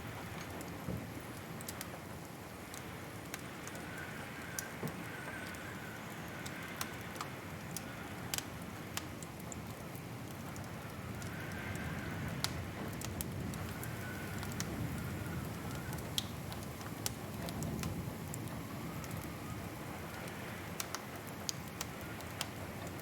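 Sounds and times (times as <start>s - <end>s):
low rushing of flames: 0.0s - 23.0s
fire popping and snapping: 0.1s - 23.0s.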